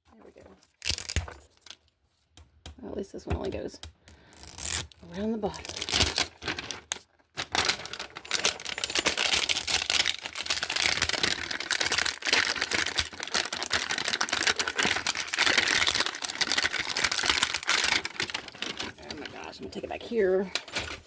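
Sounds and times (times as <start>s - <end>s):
plastic shrink-wrap crinkling: 0.7s - 2.0s, 4.3s - 21.0s.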